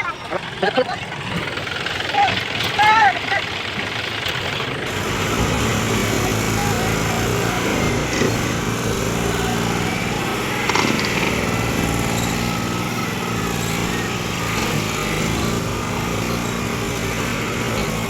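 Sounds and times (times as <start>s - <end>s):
tractor diesel engines running: 0.0s - 18.0s.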